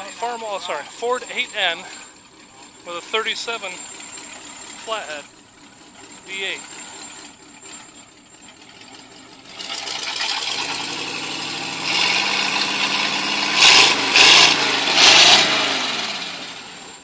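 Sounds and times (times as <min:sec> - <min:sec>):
engine revving: 0:00.0 - 0:17.0
tractor engine running: 0:00.0 - 0:17.0.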